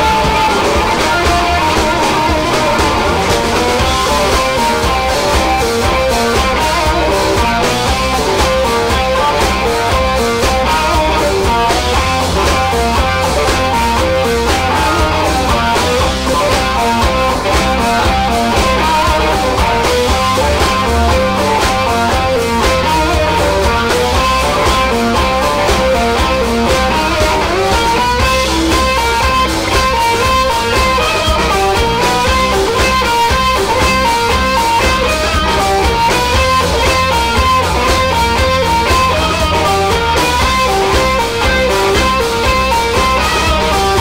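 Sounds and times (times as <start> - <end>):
bass and drums: 0.0 - 44.0
electric guitar lead lines: 0.0 - 44.0.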